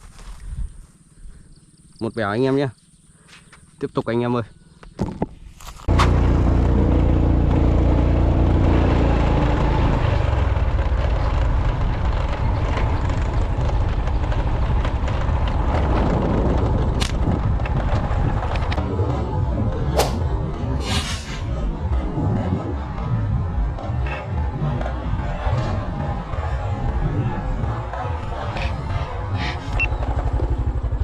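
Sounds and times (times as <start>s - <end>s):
vehicle engine running: 5.6s - 31.0s.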